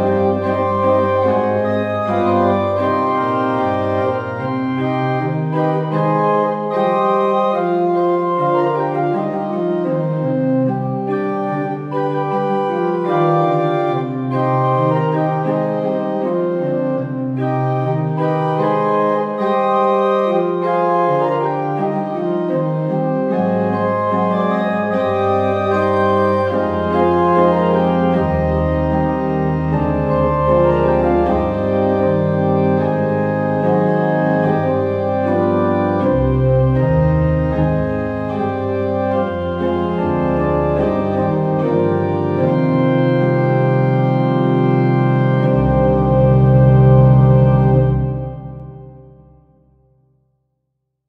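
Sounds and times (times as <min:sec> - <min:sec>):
church organ chords: 0:00.0 - 0:49.7.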